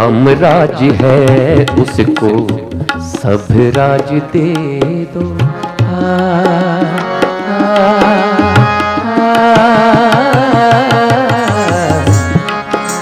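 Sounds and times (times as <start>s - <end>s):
instrumental devotional melody: 0.0s - 13.0s
tabla drumming: 0.0s - 13.0s.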